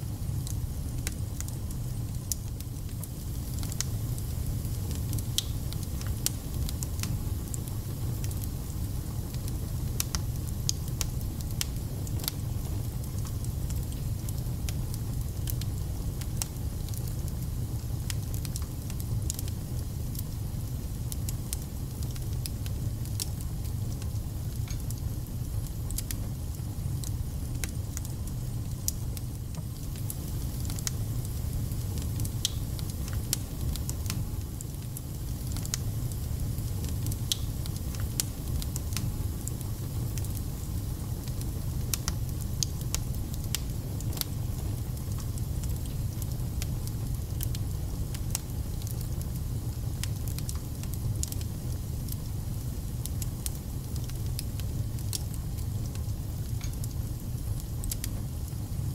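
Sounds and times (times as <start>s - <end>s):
fire crackling and popping: 0.1s - 58.9s
fire rumbling: 0.1s - 58.9s.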